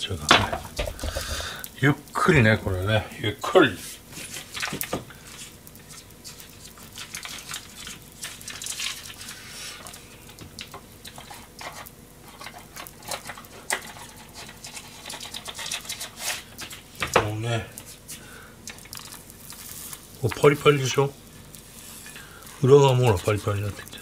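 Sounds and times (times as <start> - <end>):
crackles and pops: 0.0 - 24.0
butter sizzling in frying pan: 0.1 - 24.0.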